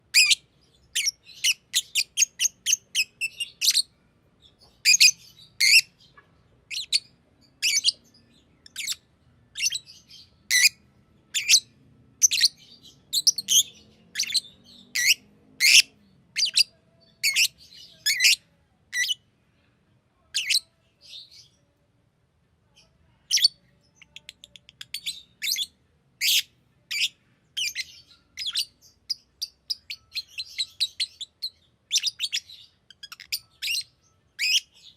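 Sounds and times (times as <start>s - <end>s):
lovebird chirping: 0.0s - 19.2s, 20.3s - 21.7s, 22.8s - 34.9s.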